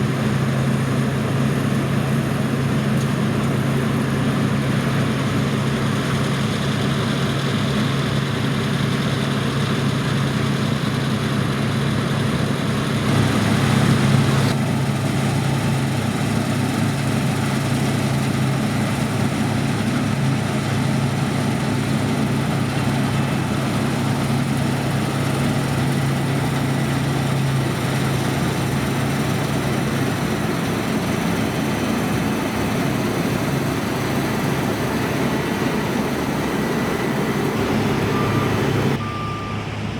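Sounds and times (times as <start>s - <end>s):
heavy diesel machinery humming: 0.0s - 39.9s.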